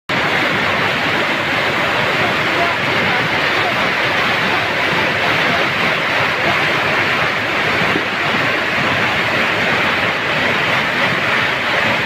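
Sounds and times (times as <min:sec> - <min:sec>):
heavy rain falling: 0:00.1 - 0:12.0.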